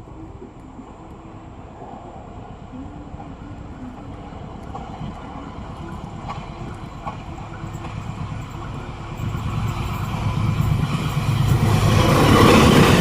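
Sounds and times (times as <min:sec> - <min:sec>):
train rumble and wheel noise: 0:00.0 - 0:13.0.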